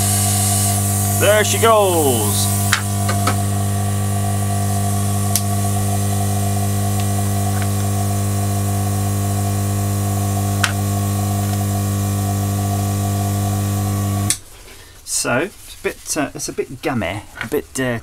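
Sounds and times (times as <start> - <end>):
electrical hum with air hiss: 0.0 - 15.6.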